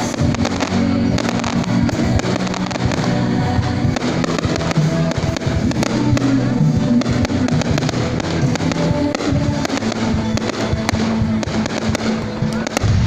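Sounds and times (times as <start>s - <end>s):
fireworks cracking and popping: 0.0s - 13.0s
loud music: 0.0s - 13.0s.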